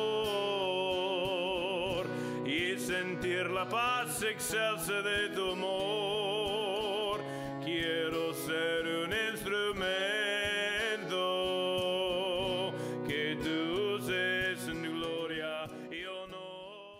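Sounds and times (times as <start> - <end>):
person singing with vibrato: 0.0 - 16.9.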